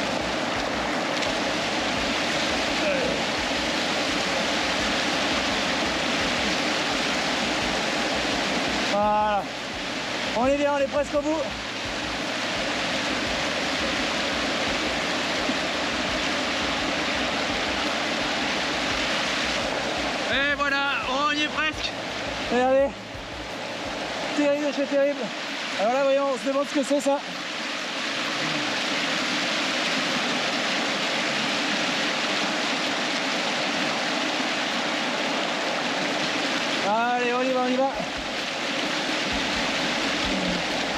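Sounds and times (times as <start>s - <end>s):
river rapids rushing over rocks: 0.0s - 40.9s.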